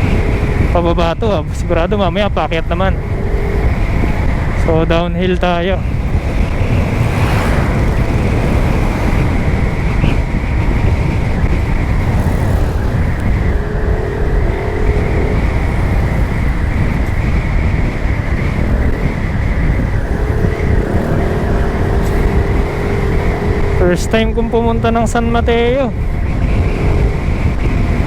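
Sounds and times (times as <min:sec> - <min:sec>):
road noise: 0:00.0 - 0:28.0
scooter engine running: 0:00.0 - 0:28.0
wind rush: 0:00.0 - 0:28.0.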